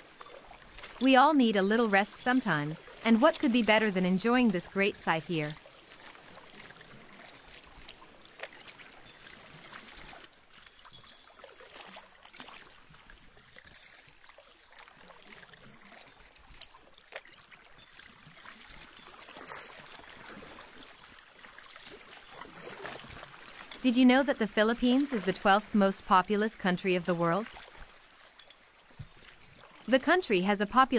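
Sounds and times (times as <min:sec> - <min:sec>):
water lapping against hull: 0:00.0 - 0:30.9
small splashes: 0:05.3 - 0:30.9.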